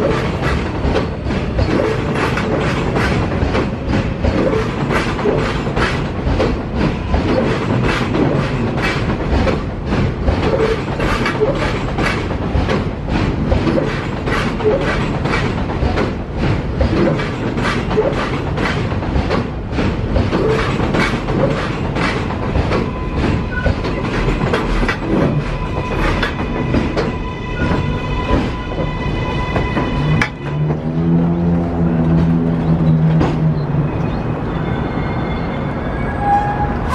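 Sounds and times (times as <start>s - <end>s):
train wheels clicking over rail joints: 0.0s - 33.7s
train rumble: 0.0s - 36.9s.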